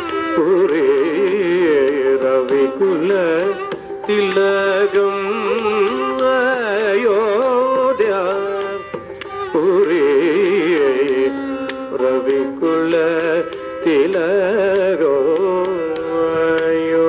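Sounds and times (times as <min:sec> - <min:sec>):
ornamented melody: 0:00.0 - 0:17.0.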